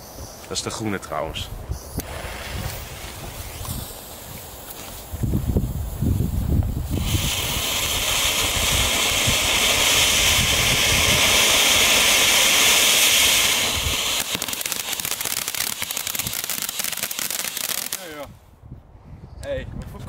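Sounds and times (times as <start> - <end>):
firework fountain hissing: 2.0 - 18.2
firework crackling: 2.0 - 18.3.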